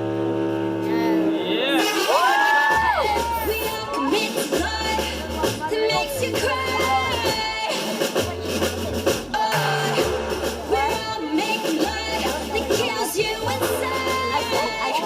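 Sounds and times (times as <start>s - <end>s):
repeating bass beat: 0.0s - 15.0s
person singing: 0.8s - 15.0s.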